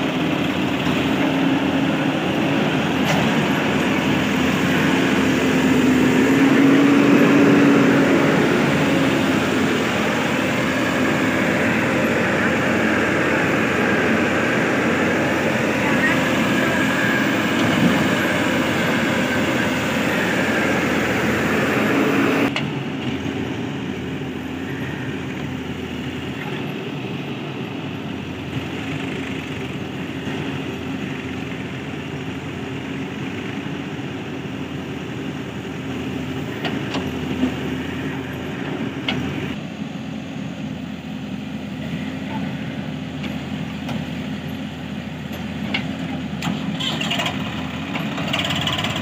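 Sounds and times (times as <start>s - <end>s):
diesel engines running: 0.0s - 49.0s.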